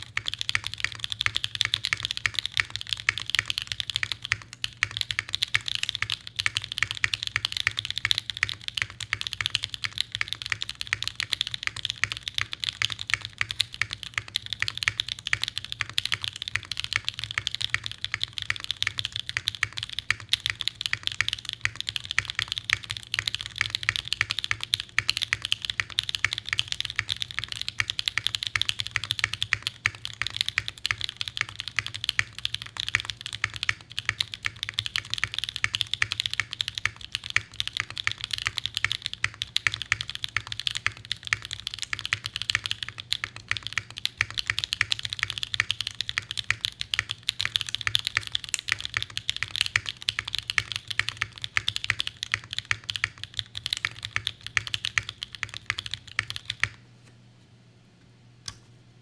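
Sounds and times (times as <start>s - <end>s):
fast keyboard typing: 0.0s - 56.8s.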